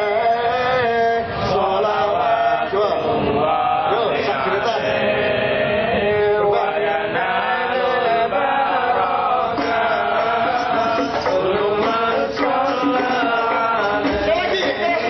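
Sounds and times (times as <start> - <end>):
person chanting melodic praise song: 0.0 - 15.0.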